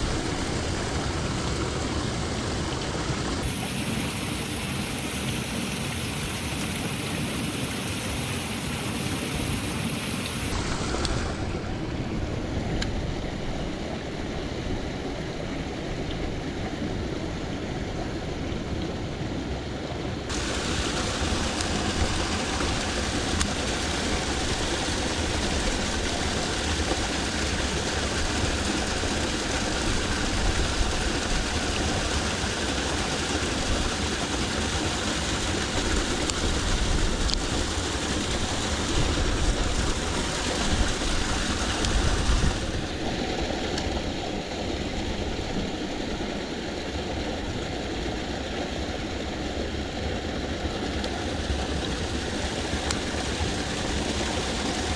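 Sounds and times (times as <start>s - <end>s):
flowing water rushing: 0.0s - 11.9s, 20.3s - 54.9s.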